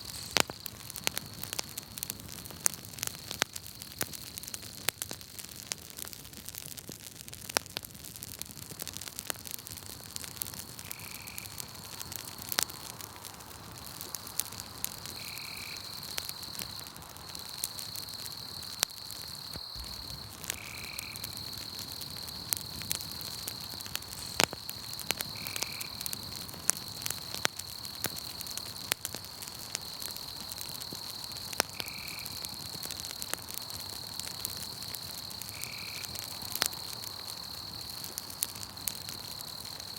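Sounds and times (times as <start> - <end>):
crickets chirring: 0.0 - 4.8, 9.9 - 13.0, 13.6 - 39.9
campfire crackling and popping: 0.0 - 39.9.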